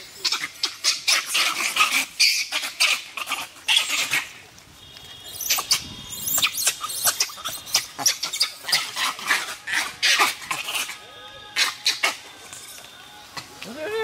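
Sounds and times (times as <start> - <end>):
monkeys giving sharp calls: 0.0 - 4.4, 5.3 - 12.7.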